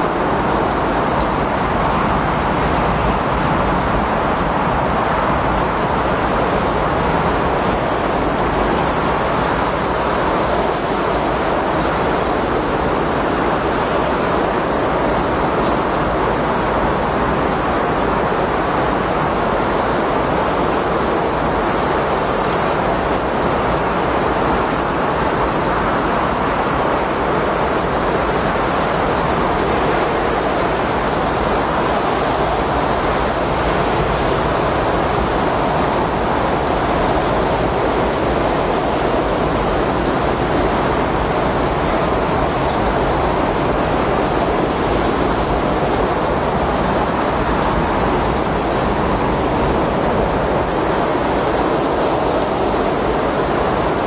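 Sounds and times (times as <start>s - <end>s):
steady rush of wind: 0.0s - 54.0s.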